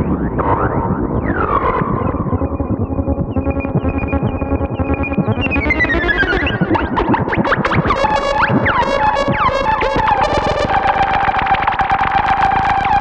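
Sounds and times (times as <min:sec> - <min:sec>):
synthesizer rapid pulses and glides: 0:00.0 - 0:13.0.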